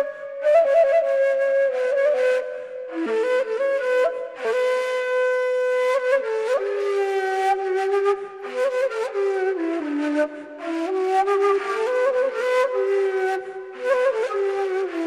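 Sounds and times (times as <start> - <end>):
reed flute slow melody: 0.0 - 15.0.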